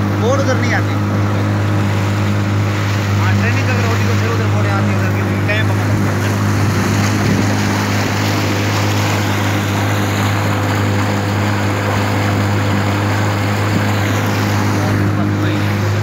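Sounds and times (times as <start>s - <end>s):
motorboat engine running: 0.0s - 16.0s
water rushing along hull: 0.0s - 16.0s.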